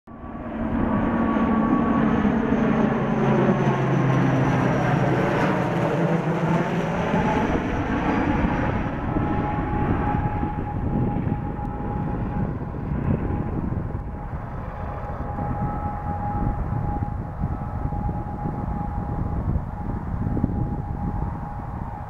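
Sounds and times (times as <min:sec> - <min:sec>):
turboprop airliner flying overhead: 0:00.1 - 0:22.0.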